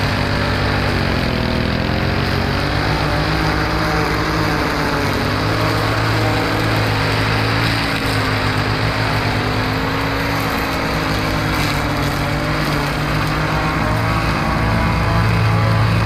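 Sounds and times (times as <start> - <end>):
lawn mower engine cutting grass: 0.0 - 16.0.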